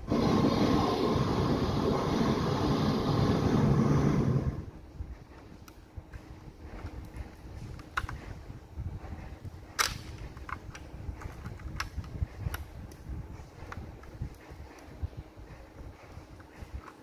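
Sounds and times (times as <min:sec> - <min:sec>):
handling rubbing noise: 0:00.0 - 0:17.0.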